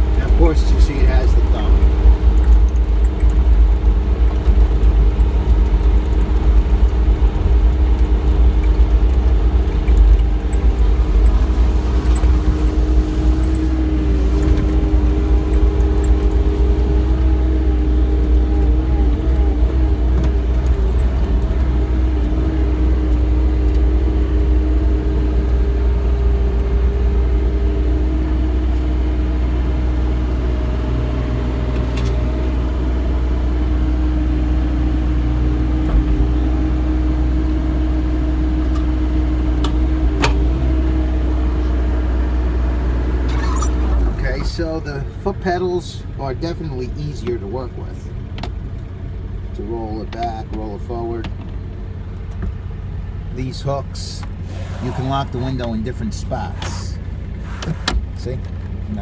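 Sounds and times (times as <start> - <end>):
steady hum: 0.0 - 48.1
diesel engine rumbling: 0.0 - 59.0.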